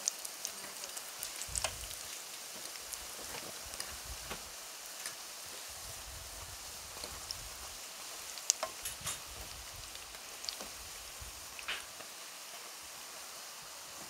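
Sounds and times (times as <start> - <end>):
pastries sizzling in hot oil: 0.0 - 14.0.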